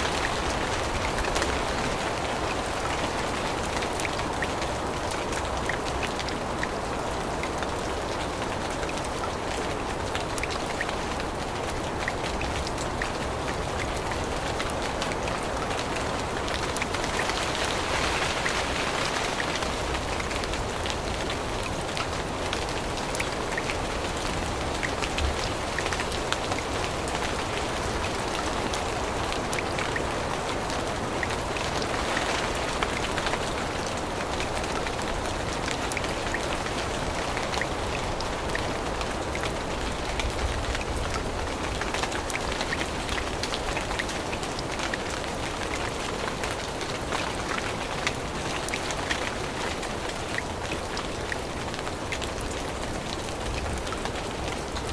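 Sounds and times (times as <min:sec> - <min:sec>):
rain on leaves: 0:00.0 - 0:54.9.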